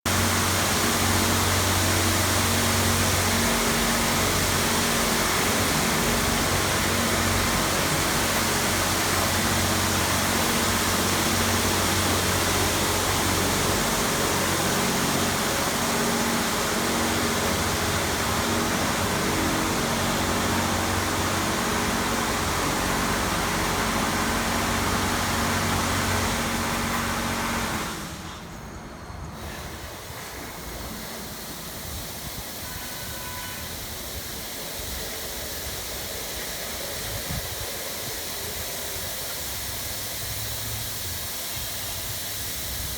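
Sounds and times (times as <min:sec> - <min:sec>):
pump motor hum: 0:00.0 - 0:28.6, 0:29.4 - 0:42.9
high-pressure water spray hissing: 0:00.0 - 0:28.7, 0:29.3 - 0:42.9.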